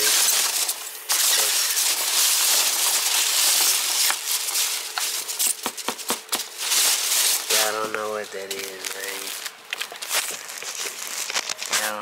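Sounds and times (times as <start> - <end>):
foam packing peanuts rustling: 0.0 - 12.0.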